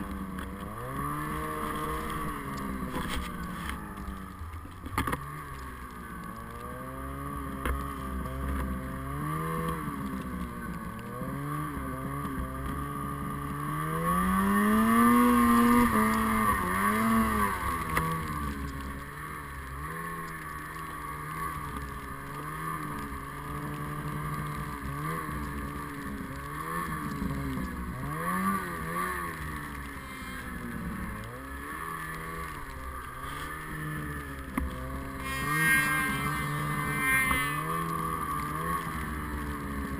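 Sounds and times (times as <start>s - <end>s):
snowmobile engine revving: 0.0s - 4.3s, 5.0s - 39.9s.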